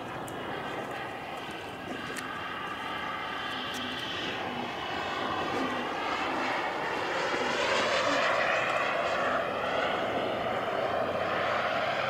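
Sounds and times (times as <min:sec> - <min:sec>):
model jet turbine whining: 0:00.0 - 0:12.0.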